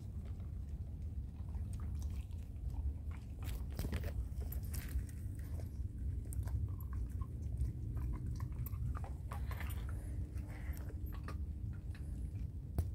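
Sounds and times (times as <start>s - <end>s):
dog chewing and crunching food: 0.0s - 12.9s.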